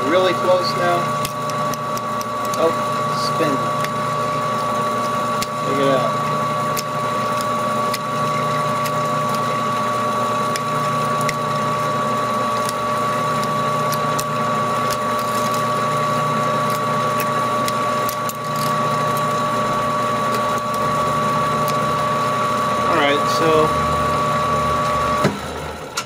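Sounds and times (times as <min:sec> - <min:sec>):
lathe motor whine and hum: 0:00.0 - 0:26.0.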